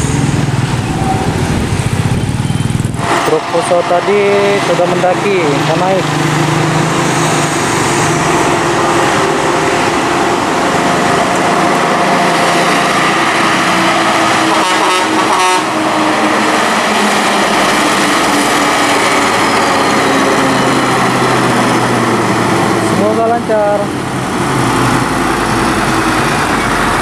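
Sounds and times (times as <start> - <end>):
motorcycle passing: 0.0 - 23.7
diesel truck engine under load: 0.0 - 27.0.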